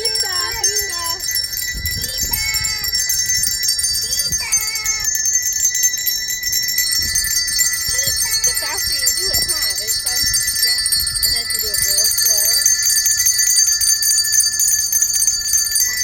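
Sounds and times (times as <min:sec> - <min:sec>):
handbells jingling: 0:00.0 - 0:16.0.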